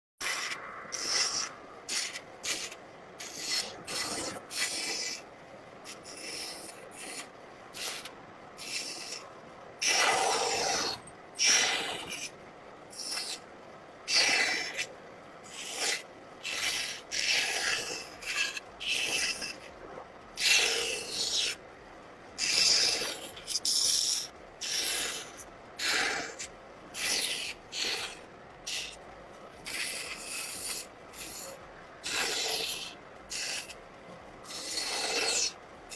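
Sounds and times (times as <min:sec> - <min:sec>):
rasping strokes on wood: 0:00.2 - 0:05.2, 0:05.8 - 0:13.4, 0:14.1 - 0:19.8, 0:20.4 - 0:21.6, 0:22.4 - 0:33.8, 0:34.4 - 0:35.6.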